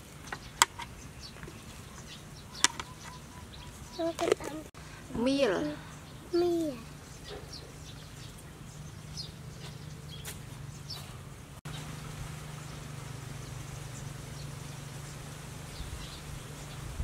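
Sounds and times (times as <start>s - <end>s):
birds chirping: 0.0s - 17.0s
steady low hum: 1.0s - 17.0s.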